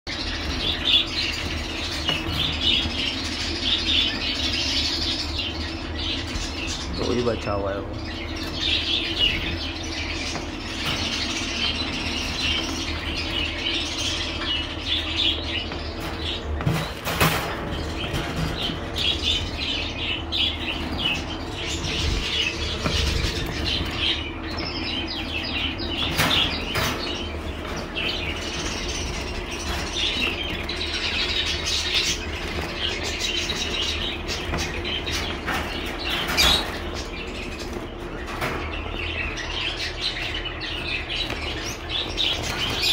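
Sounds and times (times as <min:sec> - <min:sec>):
finches chirping and twittering: 0:00.1 - 0:42.9
wings fluttering: 0:08.2 - 0:42.9.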